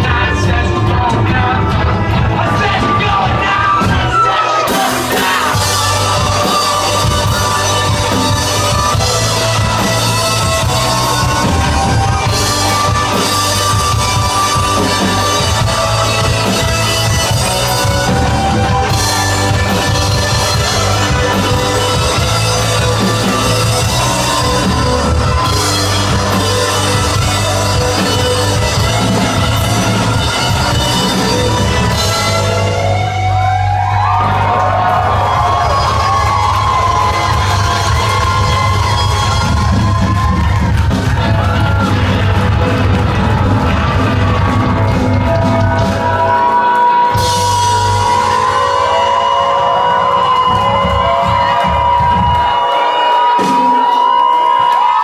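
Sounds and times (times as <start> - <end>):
bass guitar: 0.0 - 55.0
distorted electric guitars: 0.0 - 55.0
drum kit with crashing cymbals: 2.9 - 33.4, 35.0 - 54.6.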